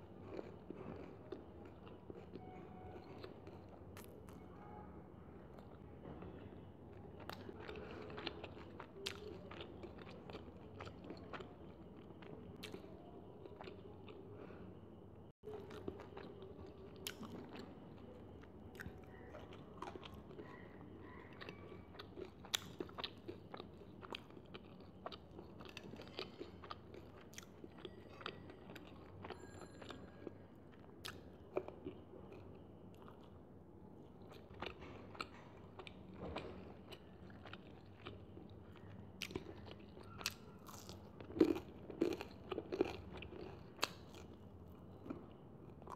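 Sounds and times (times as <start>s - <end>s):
chewing and crunching food: 0.0s - 4.6s, 5.4s - 45.9s.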